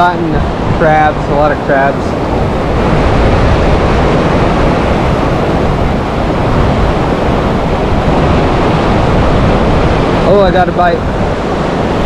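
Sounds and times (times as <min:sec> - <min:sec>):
river rushing around boulders: 0:00.0 - 0:12.0.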